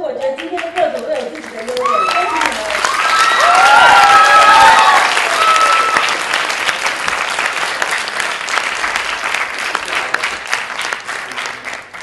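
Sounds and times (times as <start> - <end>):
audience applauding: 0.4 - 12.0.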